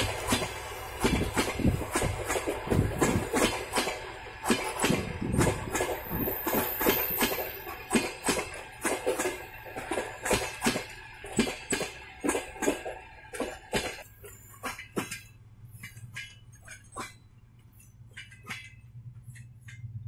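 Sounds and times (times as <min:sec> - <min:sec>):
train wheels clacking over rail joints: 0:00.0 - 0:20.0.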